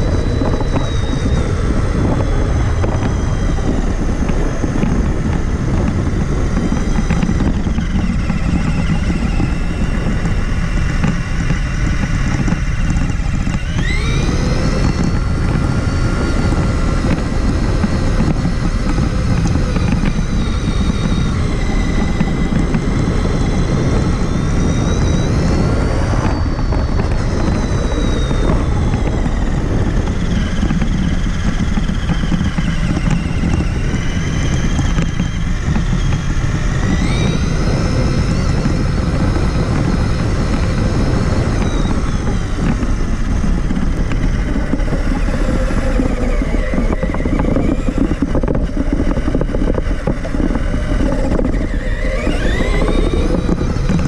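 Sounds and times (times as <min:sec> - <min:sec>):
low rumble: 0:00.0 - 0:54.0
toy truck electric motor whine: 0:00.0 - 0:54.0.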